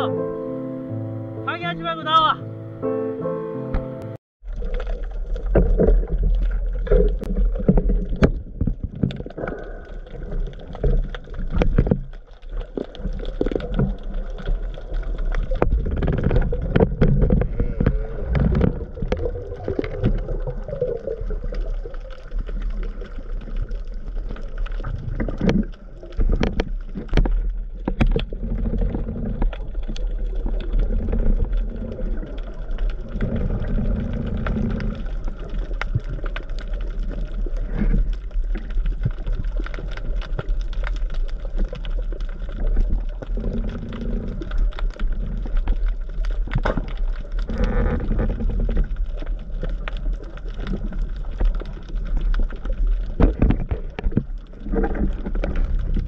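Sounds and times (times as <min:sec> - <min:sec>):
muffled underwater rumble: 0:04.4 - 0:56.0.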